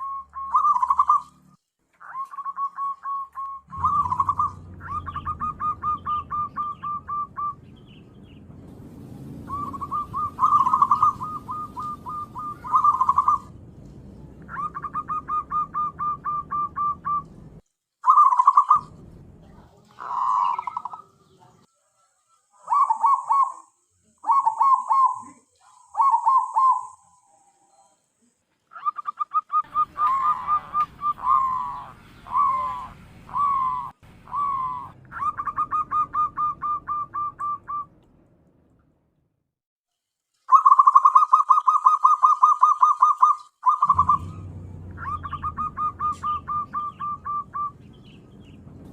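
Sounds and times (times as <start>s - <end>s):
dove cooing: 0.0s - 1.4s, 2.0s - 7.6s, 9.5s - 13.5s, 14.4s - 17.4s, 18.0s - 21.4s, 22.6s - 27.8s, 28.7s - 37.9s, 40.5s - 48.2s.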